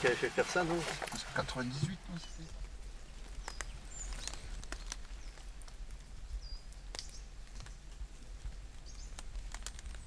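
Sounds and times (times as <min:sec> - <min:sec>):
light ticks and crackles: 0:00.1 - 0:10.0.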